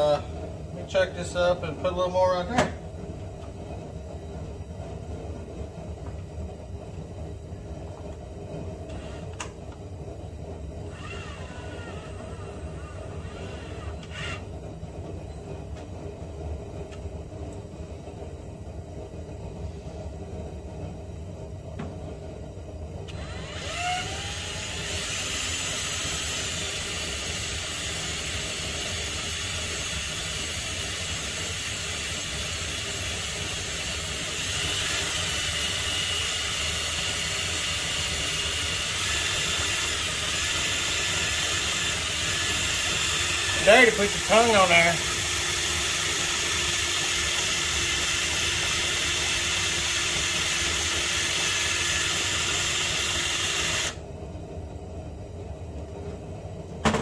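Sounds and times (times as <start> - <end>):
blower motor whine and air rush: 0.0 - 57.0.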